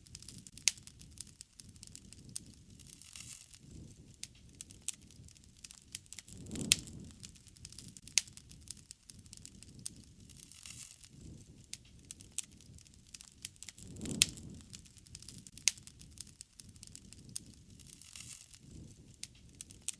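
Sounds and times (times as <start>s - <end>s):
campfire crackling: 0.0s - 19.9s
rumble of flames: 0.0s - 19.9s.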